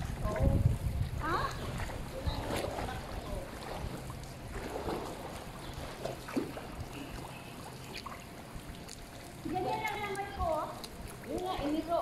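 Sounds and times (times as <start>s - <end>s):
pool water lapping and sloshing: 0.0s - 12.0s.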